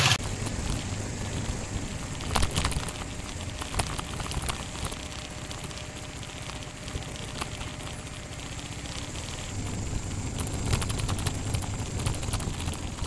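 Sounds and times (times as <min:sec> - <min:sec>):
motorcycle engine running: 0:00.0 - 0:13.0
tyres clicking on wet track: 0:00.0 - 0:13.0.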